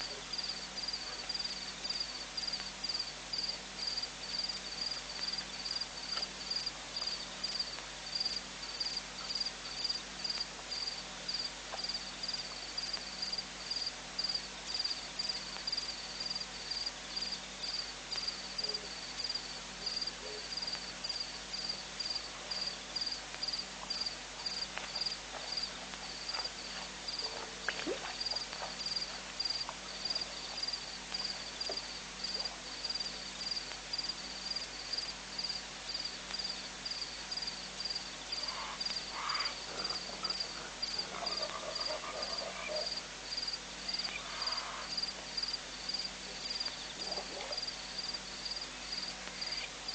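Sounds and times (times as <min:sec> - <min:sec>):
cricket chirping: 0:00.0 - 0:49.9.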